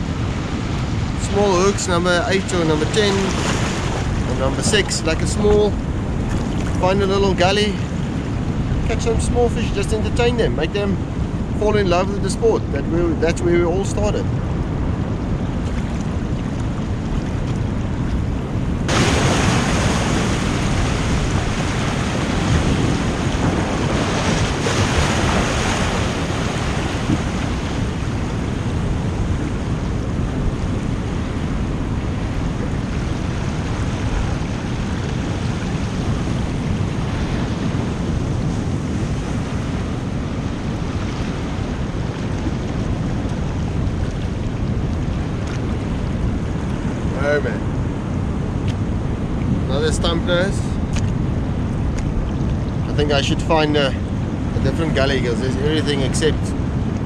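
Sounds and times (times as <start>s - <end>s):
sea surf washing over rocks: 0.0s - 12.4s, 14.8s - 57.0s
wind buffeting microphone: 0.0s - 57.0s.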